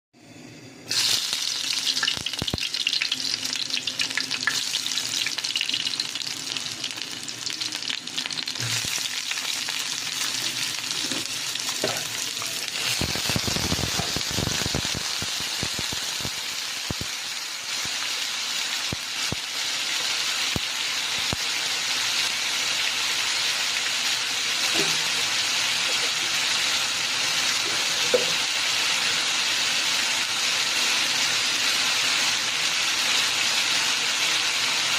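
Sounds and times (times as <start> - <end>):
food sizzling in hot oil: 0.9 - 34.9.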